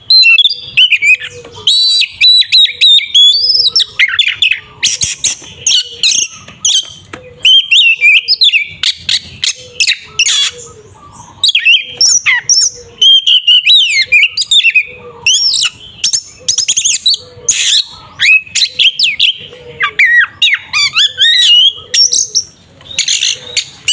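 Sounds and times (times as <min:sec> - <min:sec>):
magpie-robin singing: 0:00.0 - 0:23.9.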